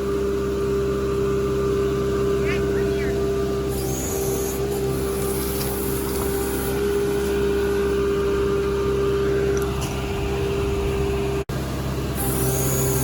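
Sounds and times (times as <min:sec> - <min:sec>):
digger engine humming: 0:00.0 - 0:13.0.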